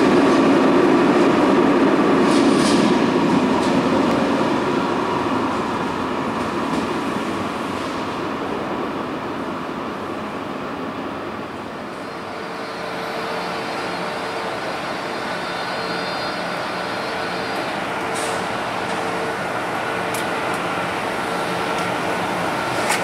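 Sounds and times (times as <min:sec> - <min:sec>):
train rolling: 0:00.0 - 0:23.0.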